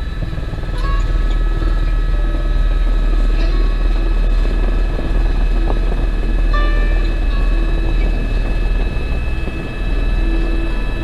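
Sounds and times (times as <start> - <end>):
helicopter rotor rumble: 0.0 - 11.0
high turbine whine: 0.0 - 11.0.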